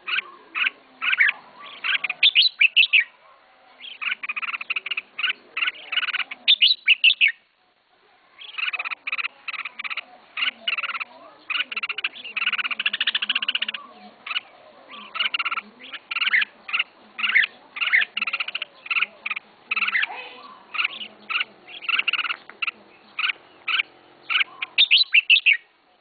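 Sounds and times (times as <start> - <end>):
bird singing and chattering: 0.0 - 7.5, 8.3 - 26.0.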